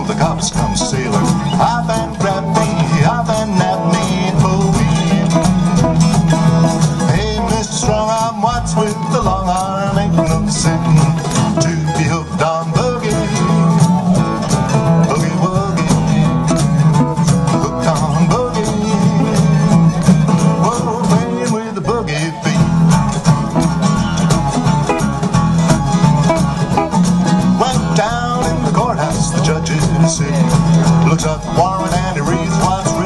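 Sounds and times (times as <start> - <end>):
acoustic guitars strumming: 0.0 - 33.0
percussion: 0.0 - 33.0
picked lead guitar: 0.0 - 33.0.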